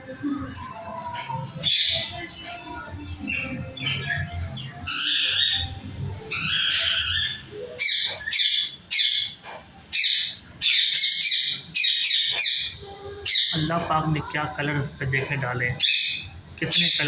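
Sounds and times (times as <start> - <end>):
parrots squawking: 0.0 - 17.0.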